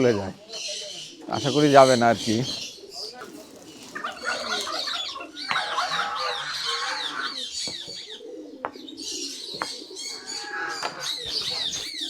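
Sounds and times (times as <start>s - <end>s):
high bird chirps: 0.0s - 8.2s, 8.9s - 12.0s
chickens clucking: 0.0s - 12.0s.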